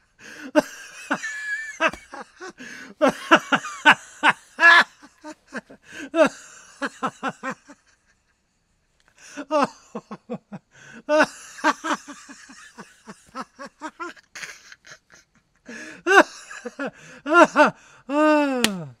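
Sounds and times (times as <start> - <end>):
man laughing heartily: 0.2 - 8.4, 9.2 - 18.9.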